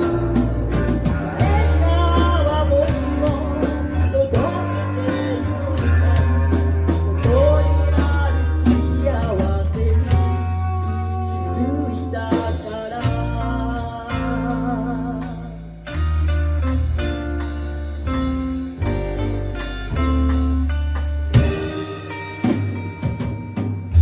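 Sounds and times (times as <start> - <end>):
bass and drums: 0.0 - 24.0
lead guitar with bends: 0.0 - 24.0.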